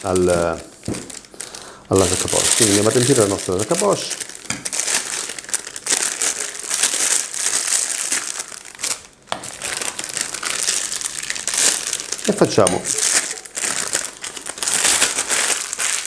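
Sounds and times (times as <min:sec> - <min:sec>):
plastic piping bag crinkling: 0:00.0 - 0:16.0.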